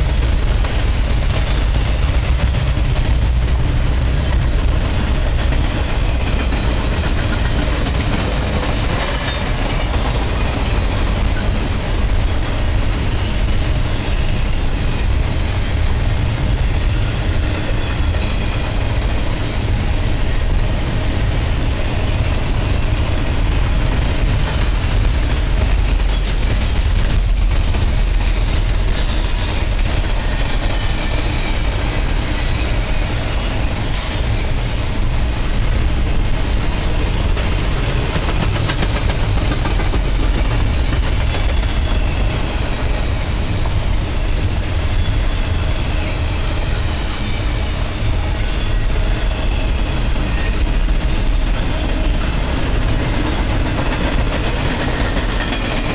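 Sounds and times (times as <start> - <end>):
freight train wheels on rails: 0.0 - 55.9.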